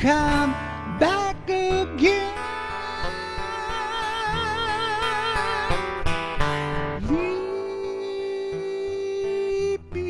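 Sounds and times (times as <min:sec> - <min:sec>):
acoustic guitar: 0:00.0 - 0:10.0
man singing with vibrato: 0:00.0 - 0:10.0.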